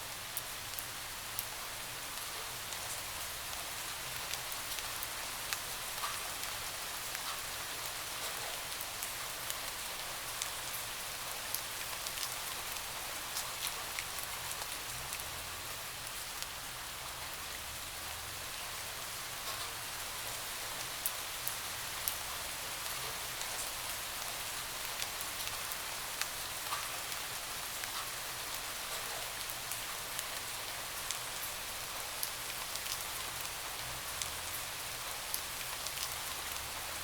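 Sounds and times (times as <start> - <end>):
rain on a window: 0.0 - 37.0.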